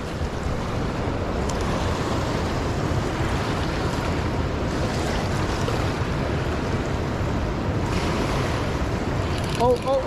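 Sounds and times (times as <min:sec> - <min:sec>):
raging river rushing: 0:00.0 - 0:10.0.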